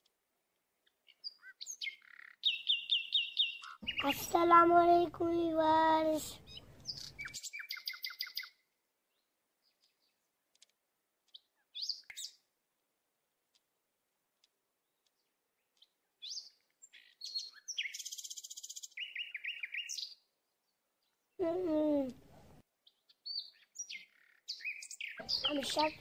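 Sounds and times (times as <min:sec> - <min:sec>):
small birds chirping: 0:00.0 - 0:12.6, 0:13.4 - 0:26.0.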